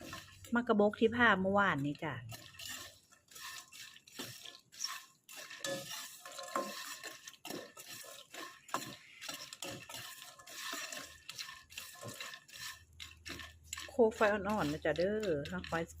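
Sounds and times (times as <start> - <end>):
nuts rattling in pan: 0.0 - 0.5, 1.9 - 16.0
spatula scraping pan: 0.0 - 0.9, 1.7 - 16.0.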